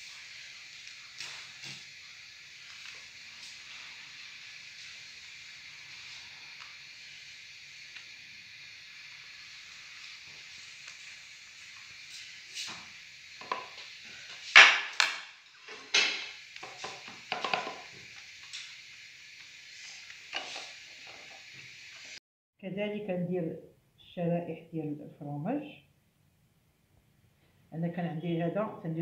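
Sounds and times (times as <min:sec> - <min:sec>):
steady faint hiss: 0:00.0 - 0:29.0.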